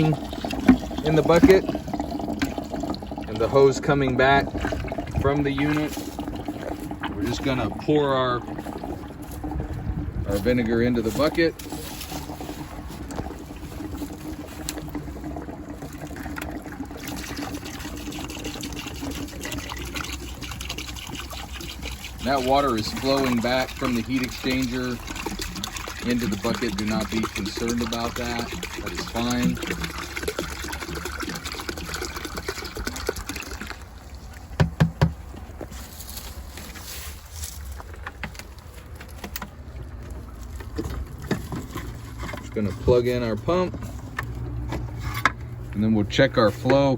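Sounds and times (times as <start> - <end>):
vinegar pouring into a bucket: 0.0 - 44.6, 45.4 - 46.9.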